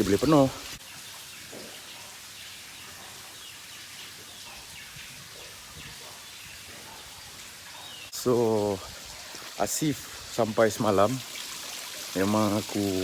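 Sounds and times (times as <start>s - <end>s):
water running from pipe: 0.0s - 13.0s.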